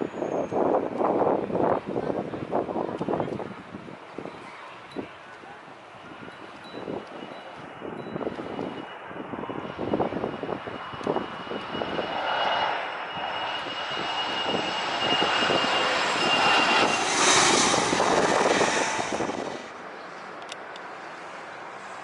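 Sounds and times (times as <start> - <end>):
high jet engine whine: 0.0 - 22.0
jet airliner passing overhead: 0.0 - 22.0.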